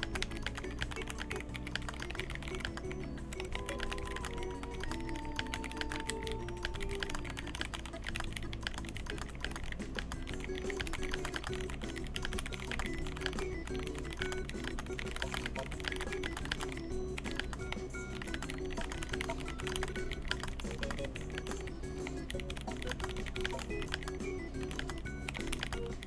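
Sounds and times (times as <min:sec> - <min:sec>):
background music: 0:00.0 - 0:26.0
mechanical keyboard typing: 0:00.0 - 0:26.0.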